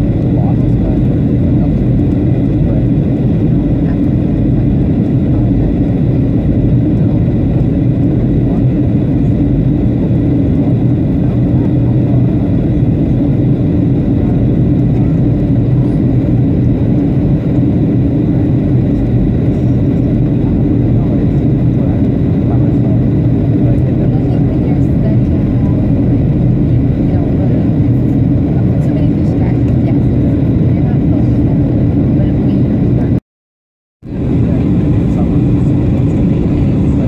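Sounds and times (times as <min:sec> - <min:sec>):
jet engines and airflow rumble: 0:00.0 - 0:33.2, 0:34.0 - 0:37.0.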